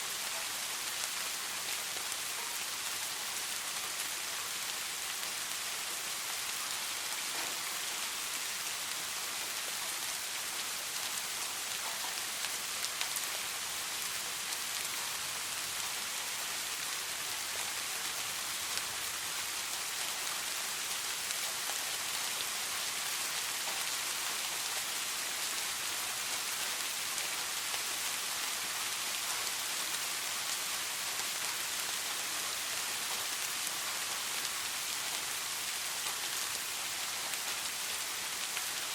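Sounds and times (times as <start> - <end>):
soft rain falling: 0.0 - 38.9.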